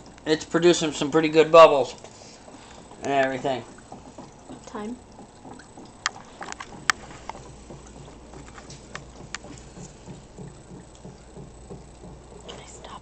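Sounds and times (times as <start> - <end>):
gas bubbling through water: 2.4 - 12.9.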